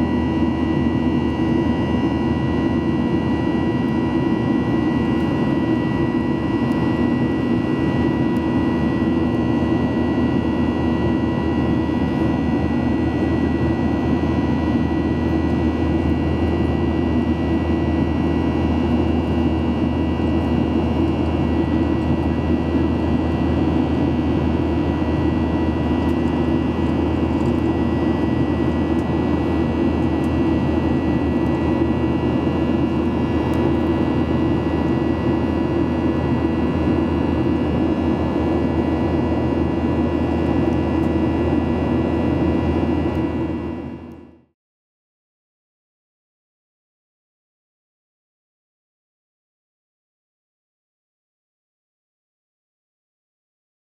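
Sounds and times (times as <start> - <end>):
jet engine cabin rumble: 0.0 - 44.3.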